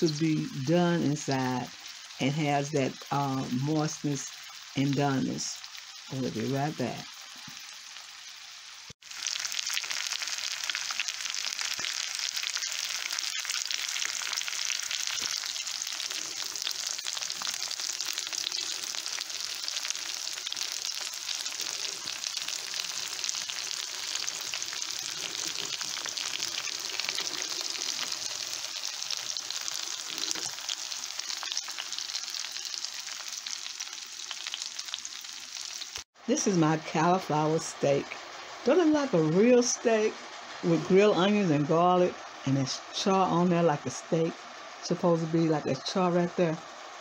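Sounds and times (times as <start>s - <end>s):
food sizzling in a pan: 0.0s - 47.0s.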